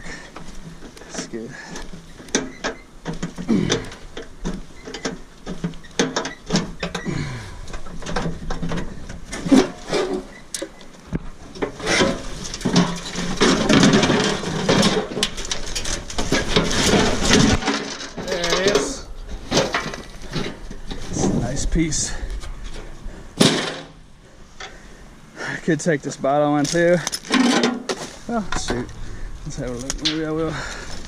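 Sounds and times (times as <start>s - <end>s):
metal scraping and creaking: 0.0s - 31.0s
metal knocks and clanks: 0.6s - 24.0s, 26.6s - 28.9s, 29.6s - 30.7s.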